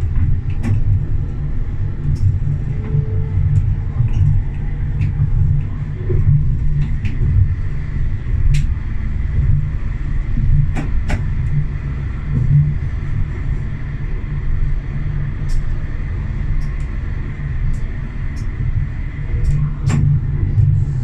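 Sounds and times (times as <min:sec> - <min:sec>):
tram rumbling along track: 0:00.0 - 0:21.0.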